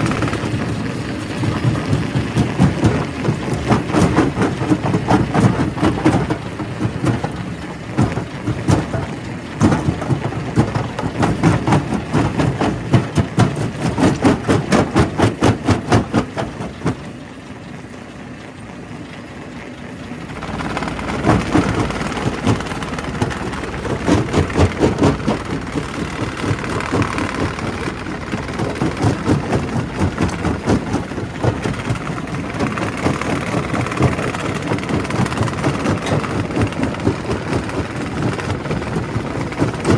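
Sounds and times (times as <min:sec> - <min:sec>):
rock crusher clattering: 0:00.0 - 0:17.9, 0:20.3 - 0:39.9
machine drone: 0:00.0 - 0:39.9.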